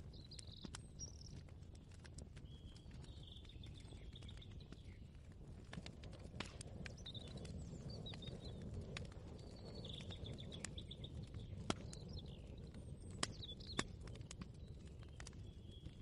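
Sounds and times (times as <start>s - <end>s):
small birds chirping: 0.0s - 5.1s, 6.6s - 16.0s.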